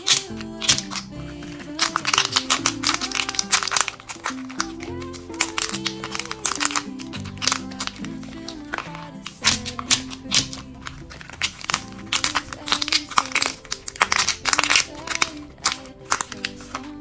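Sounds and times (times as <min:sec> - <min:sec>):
background pop music: 0:00.0 - 0:17.0
plastic push-pop toy crackling: 0:00.0 - 0:17.0.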